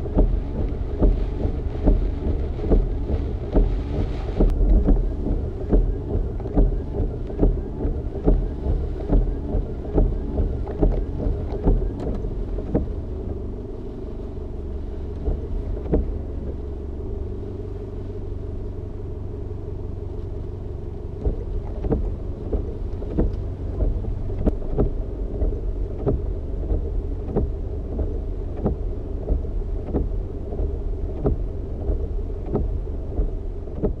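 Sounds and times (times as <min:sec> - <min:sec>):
turn indicator ticking: 0:00.0 - 0:13.7, 0:14.5 - 0:18.8, 0:19.9 - 0:34.0
vehicle engine idling: 0:00.0 - 0:34.0.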